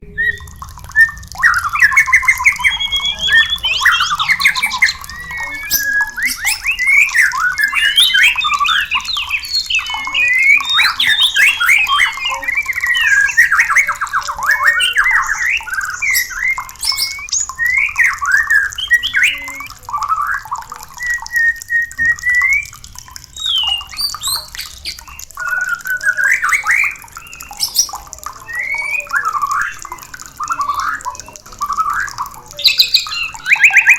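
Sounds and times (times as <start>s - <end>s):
birds singing and calling: 0.0s - 33.9s.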